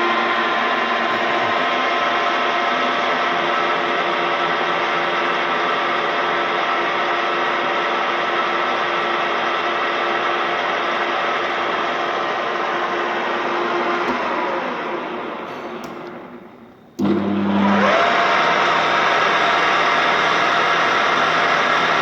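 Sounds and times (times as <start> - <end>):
pillar drill motor hum: 0.0 - 22.0.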